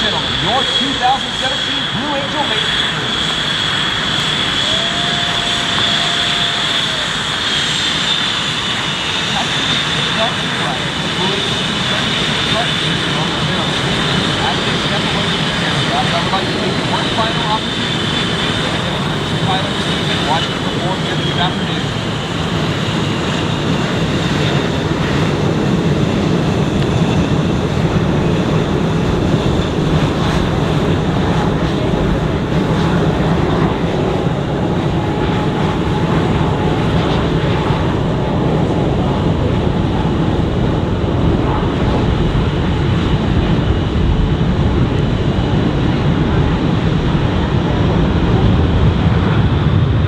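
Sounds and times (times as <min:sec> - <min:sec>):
jet engines idling: 0:00.0 - 0:50.0.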